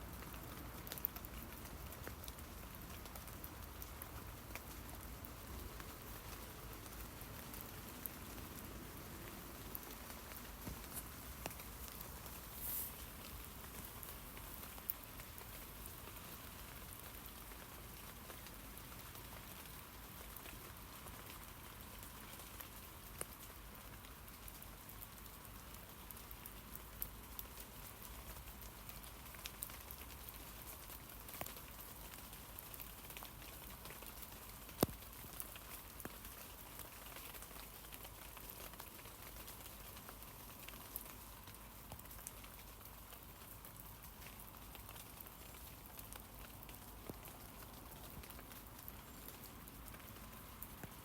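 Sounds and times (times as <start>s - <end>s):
light rain on leaves: 0.0s - 51.0s.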